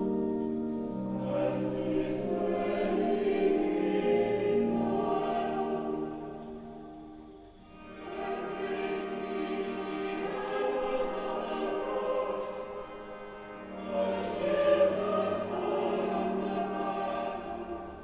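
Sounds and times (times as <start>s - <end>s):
choir singing a slow chant: 0.0s - 18.0s.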